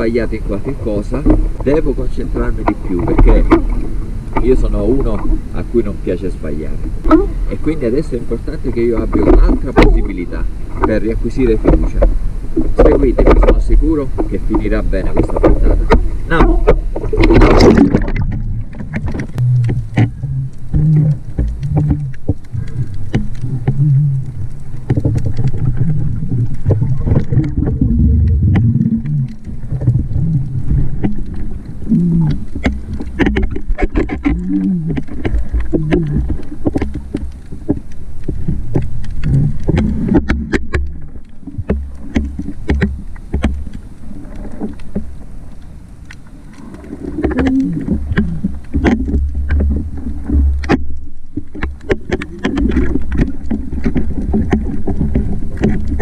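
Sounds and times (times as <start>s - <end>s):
sharp underwater clicks: 0.0s - 56.0s
underwater churning rumble: 0.0s - 56.0s.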